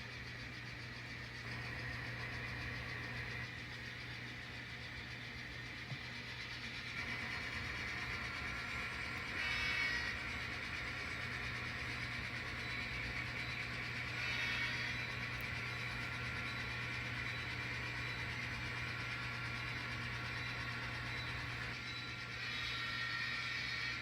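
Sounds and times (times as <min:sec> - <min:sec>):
model train humming: 0:00.0 - 0:24.0.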